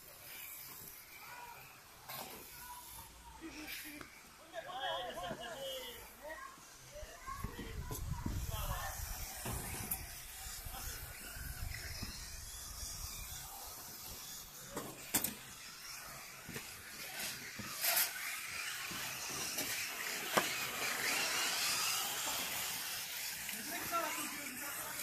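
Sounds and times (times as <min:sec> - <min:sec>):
rc car motors hissing: 0:00.0 - 0:25.0.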